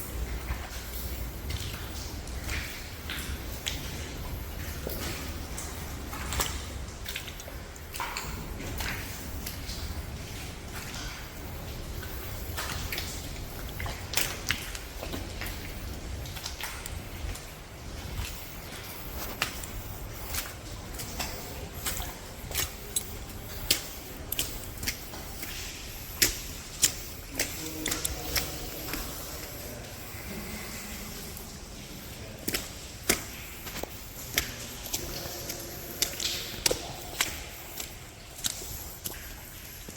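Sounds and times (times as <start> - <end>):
footsteps squelching through mud: 0.0 - 39.9.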